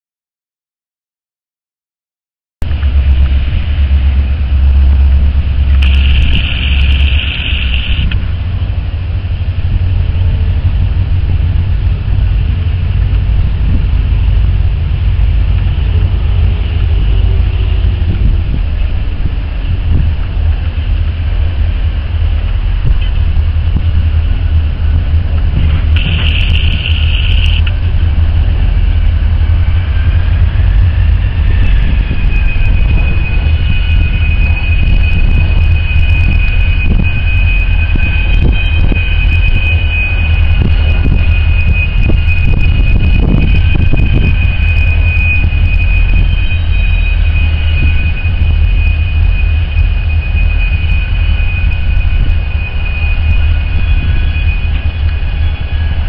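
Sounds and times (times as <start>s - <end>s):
diesel locomotive engine rumble: 2.6s - 56.0s
high whine: 2.6s - 56.0s.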